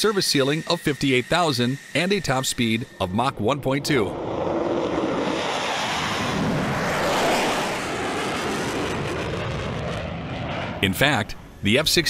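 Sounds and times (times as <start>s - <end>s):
jet engine with afterburner: 0.0s - 12.0s.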